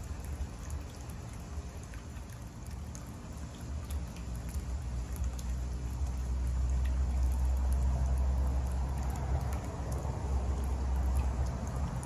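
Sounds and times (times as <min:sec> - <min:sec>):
fountain splashing into basin: 0:00.0 - 0:12.0.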